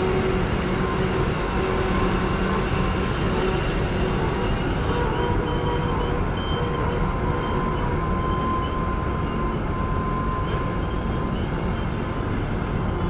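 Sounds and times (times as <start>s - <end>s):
thin steady whine: 0.0s - 13.0s.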